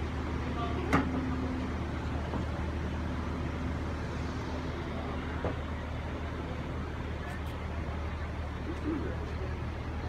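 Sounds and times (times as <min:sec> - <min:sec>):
railcar engine humming: 0:00.0 - 0:10.0.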